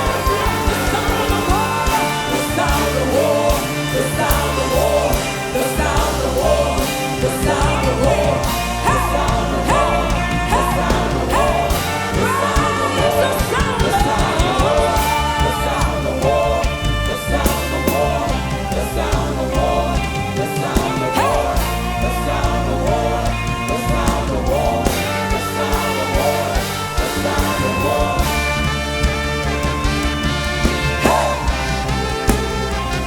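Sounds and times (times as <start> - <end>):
worship band with steady bass: 0.0 - 33.0.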